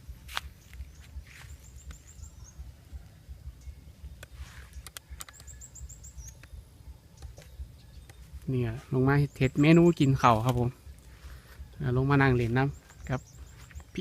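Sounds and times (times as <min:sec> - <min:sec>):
small bird singing: 0:00.0 - 0:14.0.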